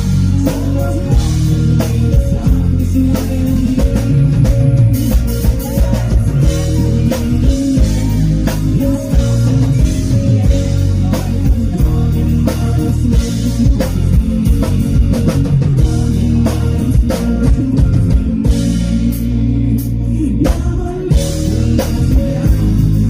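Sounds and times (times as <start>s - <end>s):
drum kit beat: 0.0s - 23.0s
guitars: 0.0s - 23.0s
live band playing rock ballad: 0.0s - 23.0s.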